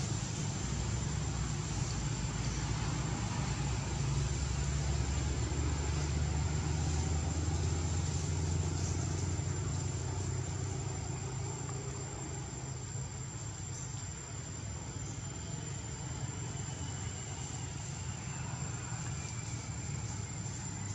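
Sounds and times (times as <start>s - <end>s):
low engine rumble: 0.0s - 20.9s.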